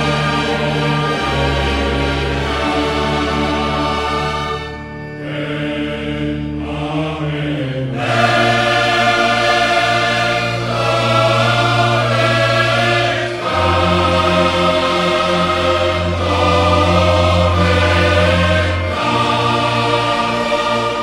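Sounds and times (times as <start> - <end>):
choir and orchestra sacred music: 0.0 - 21.0.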